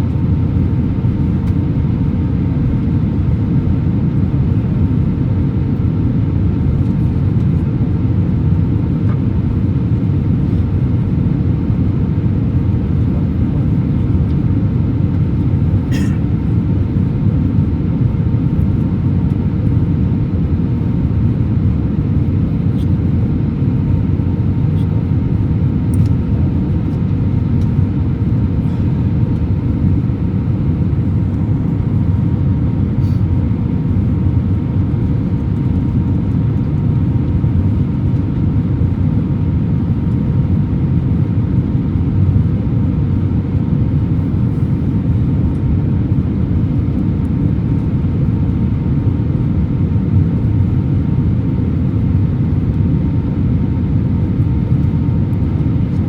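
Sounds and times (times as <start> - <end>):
airplane cabin air and engine noise: 0.0 - 56.0
faint steady hum: 0.0 - 56.0.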